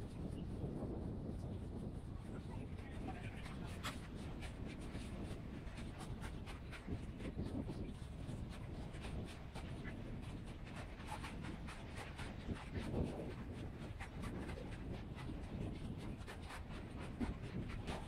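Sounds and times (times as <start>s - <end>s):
choppy water lapping: 0.0s - 18.0s
wind rumbling on microphone: 0.0s - 18.0s.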